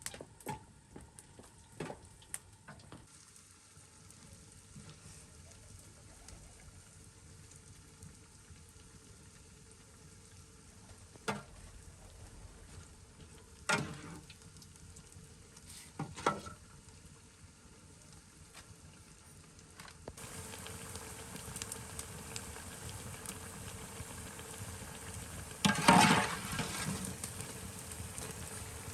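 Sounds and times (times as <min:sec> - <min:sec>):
food sizzling in a frying pan: 0:03.1 - 0:19.0, 0:20.0 - 0:28.9.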